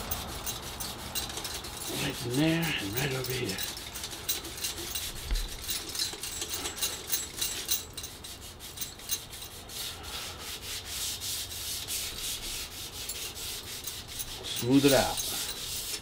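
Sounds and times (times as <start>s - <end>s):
sandpaper rubbing on metal: 0.0s - 16.0s.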